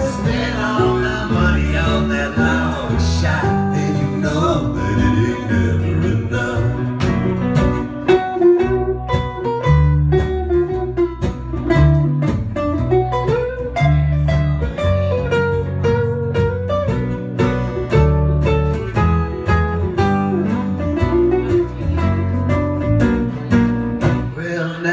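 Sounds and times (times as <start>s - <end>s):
low bass line: 0.0s - 24.4s
acoustic guitars strumming and picking: 0.0s - 24.9s.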